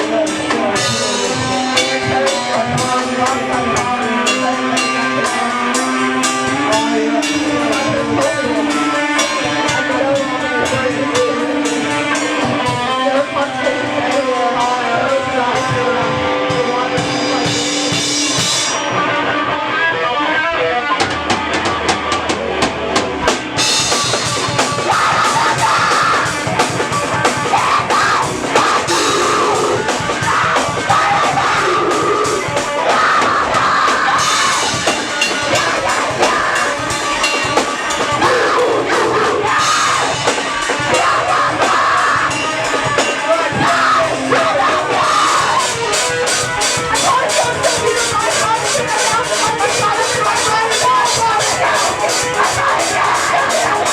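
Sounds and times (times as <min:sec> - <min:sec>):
drum kit: 0:00.0 - 0:19.7, 0:20.9 - 0:53.9
guitar notes: 0:00.0 - 0:53.9
live band playing loud: 0:00.0 - 0:53.9.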